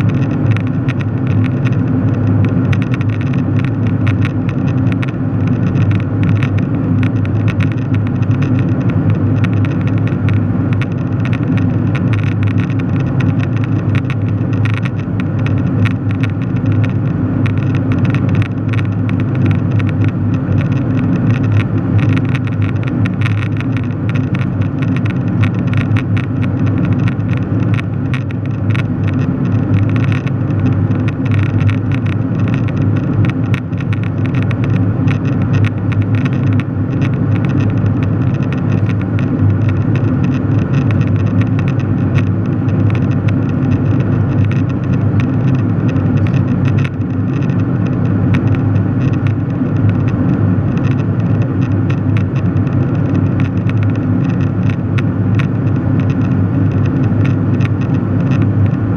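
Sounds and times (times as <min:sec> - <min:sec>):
fine crackle: 0:00.0 - 0:58.8.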